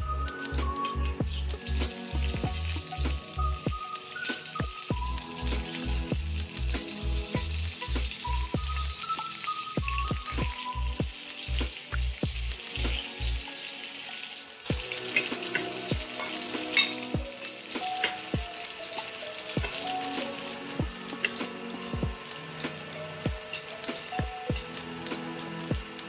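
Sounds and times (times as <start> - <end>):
background music with beat: 0.0 - 26.0
tofu sizzling in oil: 0.0 - 26.0.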